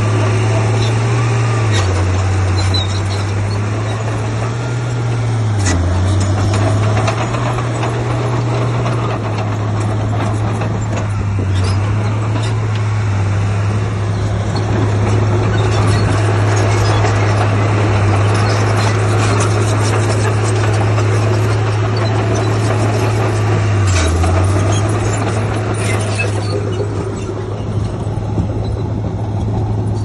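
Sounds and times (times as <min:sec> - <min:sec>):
clanks and rattles: 0:00.0 - 0:30.0
heavy diesel engine droning: 0:00.0 - 0:30.0.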